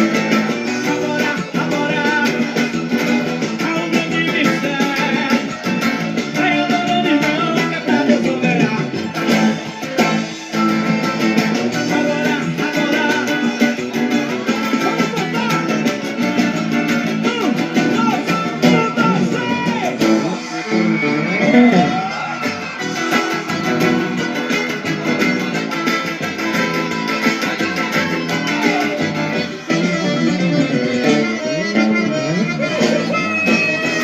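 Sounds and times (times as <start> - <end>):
band music with lead guitar: 0.0 - 34.0.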